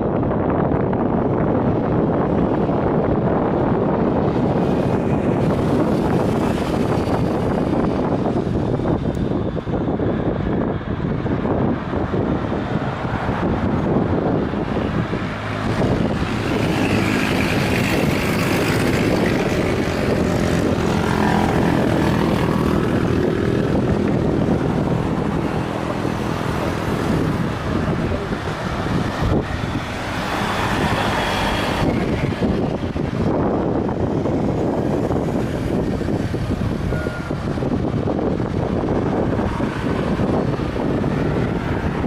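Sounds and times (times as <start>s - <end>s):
jet airliner engines roaring: 0.0s - 42.0s.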